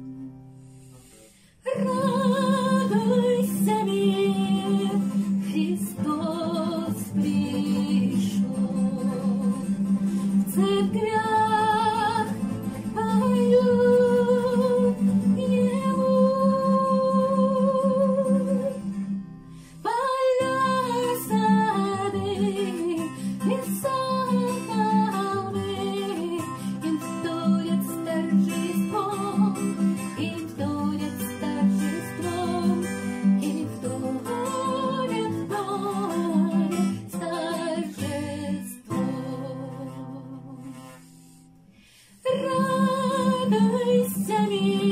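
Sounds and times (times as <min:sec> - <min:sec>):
guitar accompaniment: 0:00.0 - 0:44.9
woman singing: 0:01.6 - 0:19.0, 0:19.8 - 0:41.1, 0:42.2 - 0:44.9.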